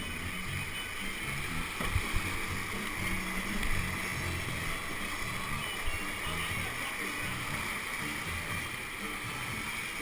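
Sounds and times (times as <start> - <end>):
low rumbling: 0.0 - 10.0
whitewater rushing: 0.0 - 10.0.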